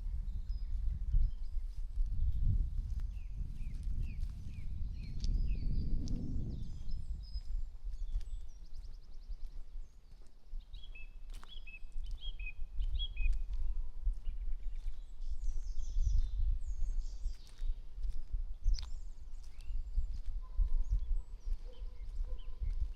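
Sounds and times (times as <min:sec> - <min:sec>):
small birds singing: 0:00.0 - 0:17.9, 0:18.5 - 0:22.9.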